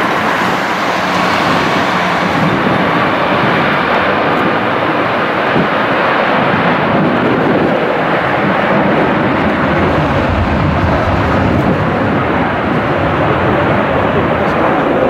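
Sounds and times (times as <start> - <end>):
jet engines at takeoff thrust: 0.0 - 15.0.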